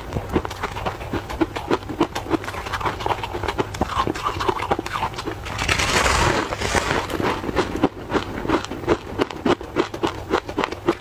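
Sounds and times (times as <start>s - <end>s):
crunching crispy snack: 0.2s - 11.0s.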